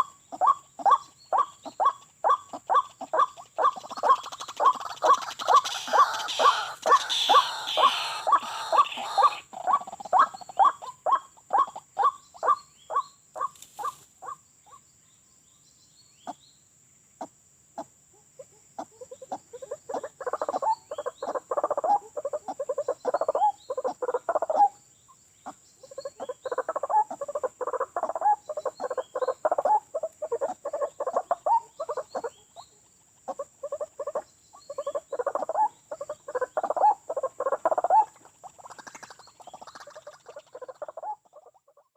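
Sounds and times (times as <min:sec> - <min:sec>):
bird croaking calls: 0:00.0 - 0:14.9, 0:17.2 - 0:41.9.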